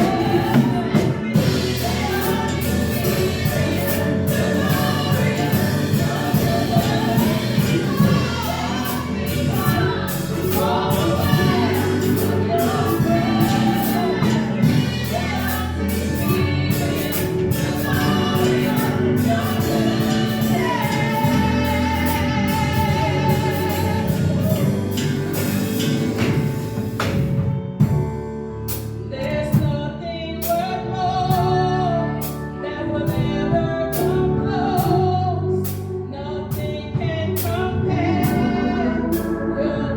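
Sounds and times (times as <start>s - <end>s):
group singing gospel praise song: 0.0s - 27.3s, 29.2s - 39.9s
drums: 0.0s - 39.5s
worship band playing: 0.0s - 39.9s.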